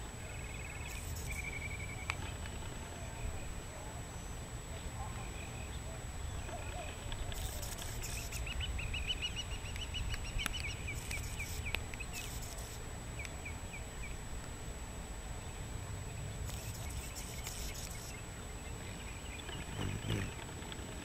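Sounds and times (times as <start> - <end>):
bird chirping: 0.2 - 2.3, 4.2 - 14.2, 15.4 - 20.6.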